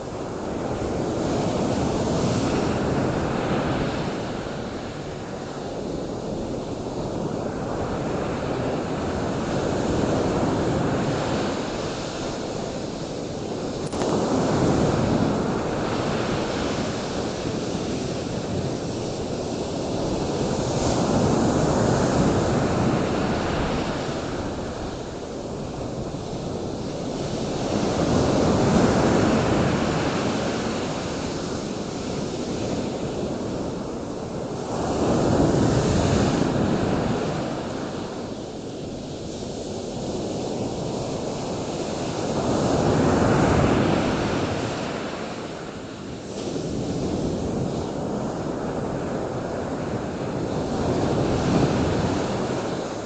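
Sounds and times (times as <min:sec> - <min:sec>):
ocean waves washing ashore: 0:00.0 - 0:53.0.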